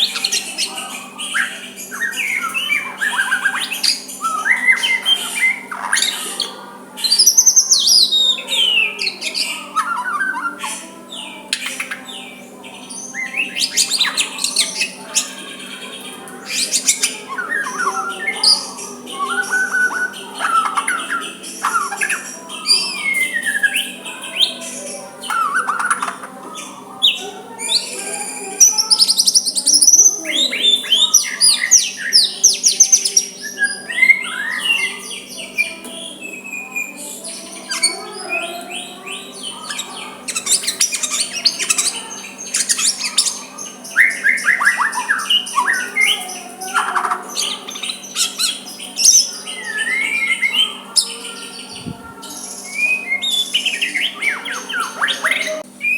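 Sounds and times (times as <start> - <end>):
bird singing varied song: 0.0 - 55.9.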